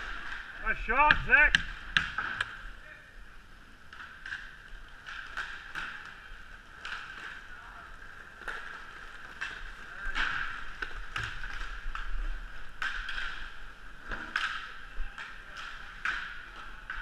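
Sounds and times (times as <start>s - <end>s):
sticks and puck clacking: 0.0s - 2.7s, 3.8s - 17.0s
skate wheels rolling on hard floor: 0.0s - 17.0s.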